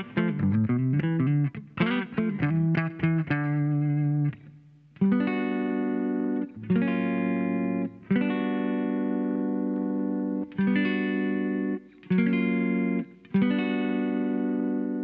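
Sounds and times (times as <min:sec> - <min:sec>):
electric guitar held chords: 0:00.0 - 0:15.0.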